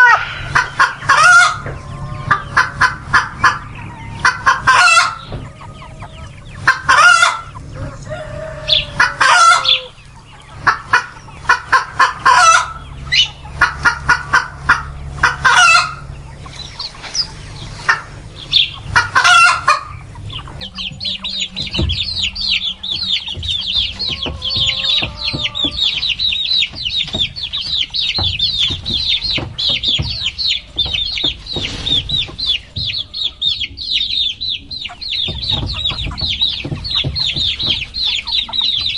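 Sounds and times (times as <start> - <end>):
chickens clucking and cackling: 0.0 - 38.9
chicks peeping: 0.0 - 38.9.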